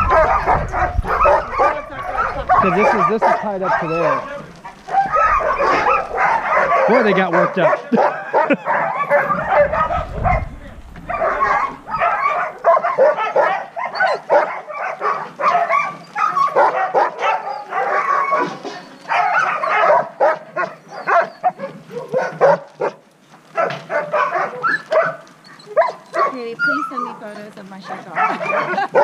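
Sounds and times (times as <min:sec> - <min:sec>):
sled dogs barking: 0:00.0 - 0:29.0.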